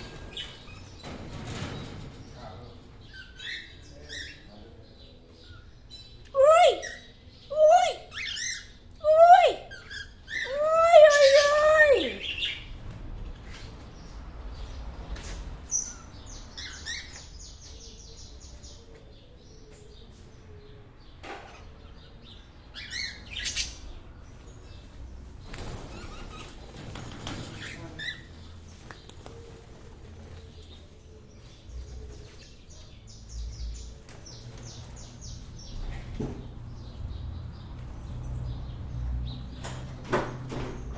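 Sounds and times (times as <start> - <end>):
flock of birds chirping: 0.0 - 40.9.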